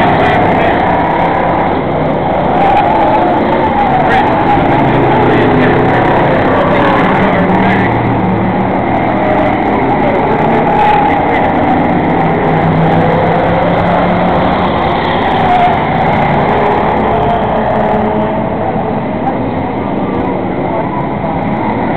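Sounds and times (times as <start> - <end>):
race car engines droning: 0.0 - 21.9.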